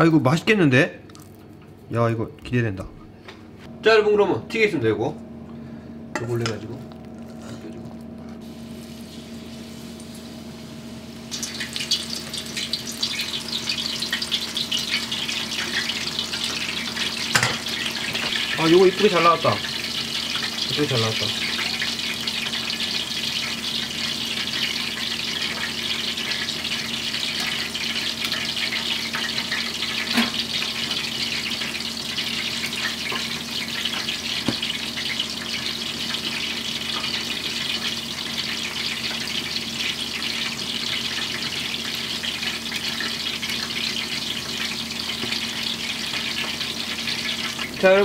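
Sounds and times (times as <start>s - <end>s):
batter deep-frying in oil: 8.4s - 48.0s.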